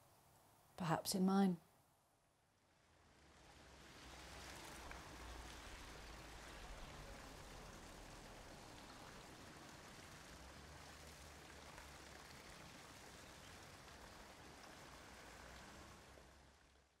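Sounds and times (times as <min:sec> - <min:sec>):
faint rain falling: 0:02.7 - 0:17.0.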